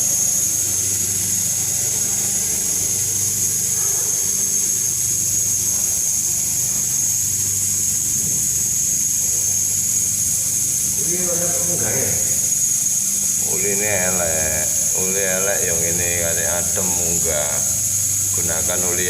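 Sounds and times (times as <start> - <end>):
constant high hiss: 0.0 - 19.0
refrigerator compressor humming: 0.0 - 19.0.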